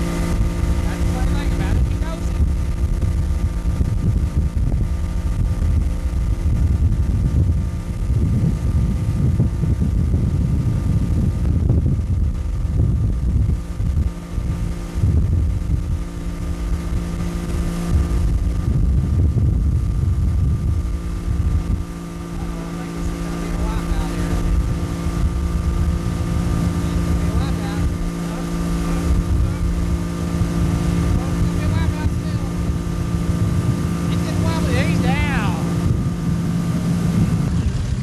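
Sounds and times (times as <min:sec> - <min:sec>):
outboard motor running: 0:00.0 - 0:38.0
wind buffeting microphone: 0:00.0 - 0:38.0.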